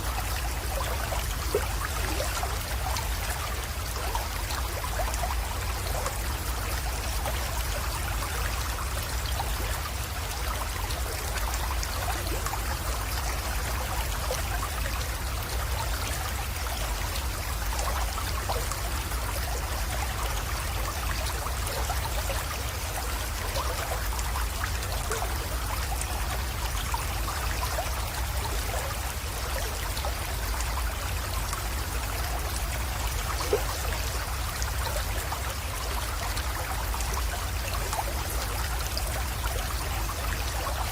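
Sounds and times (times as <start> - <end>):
creek flowing and trickling: 0.0 - 40.9.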